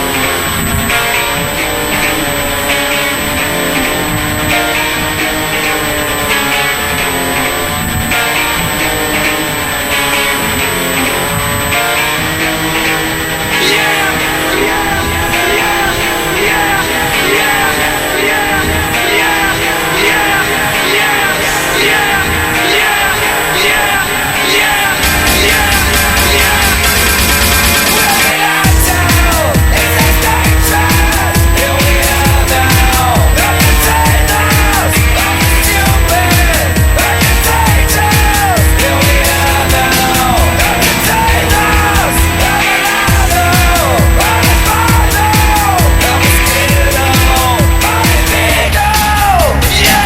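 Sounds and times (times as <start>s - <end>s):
rock music with guitar: 0.0s - 50.0s.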